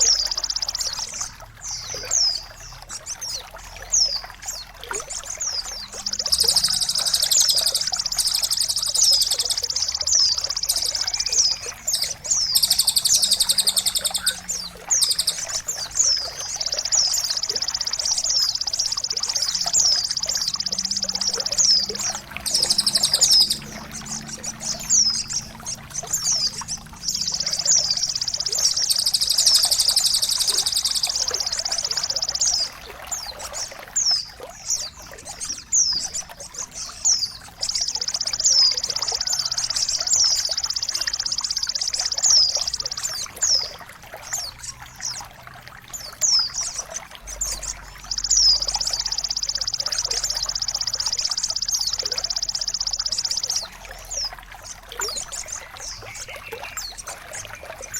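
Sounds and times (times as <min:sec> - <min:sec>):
high falling bird chirps: 0:00.0 - 0:44.6, 0:46.0 - 0:57.9
long rapid bird trill: 0:00.0 - 0:44.7, 0:45.9 - 0:57.9
trickle of running water: 0:00.0 - 0:57.9.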